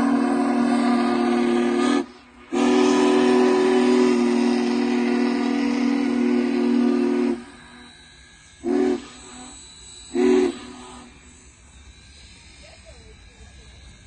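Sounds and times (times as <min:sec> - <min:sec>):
faint steam hiss: 0:00.0 - 0:14.0
steam locomotive chime whistle: 0:00.0 - 0:14.0.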